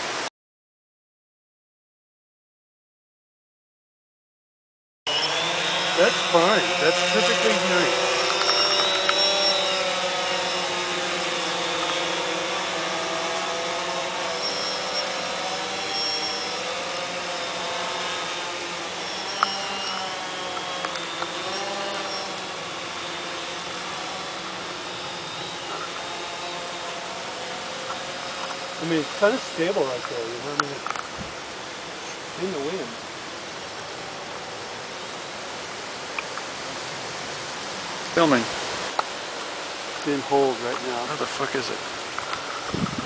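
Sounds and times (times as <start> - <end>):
quadcopter motors whining: 5.1 - 43.0.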